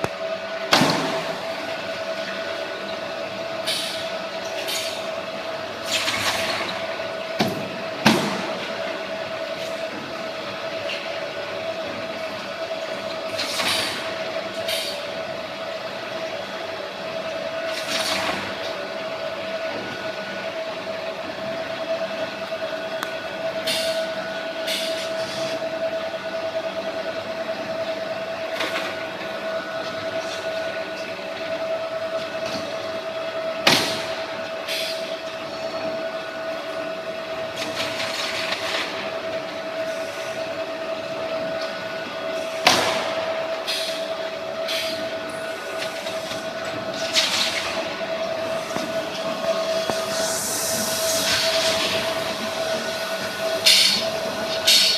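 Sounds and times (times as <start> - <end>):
compactor machine hum: 0.0 - 54.9.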